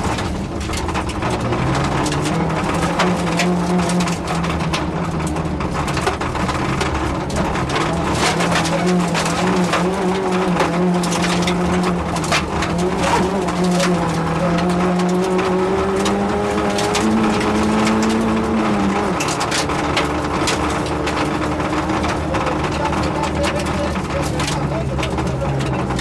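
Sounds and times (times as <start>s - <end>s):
gravel striking car body: 0.0s - 26.0s
rally car engine pulling hard: 0.0s - 26.0s.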